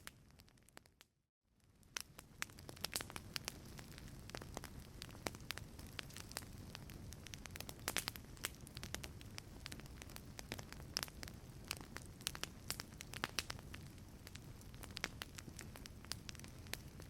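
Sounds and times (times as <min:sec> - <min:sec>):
wood fire crackling: 0:00.0 - 0:01.0, 0:01.6 - 0:17.0.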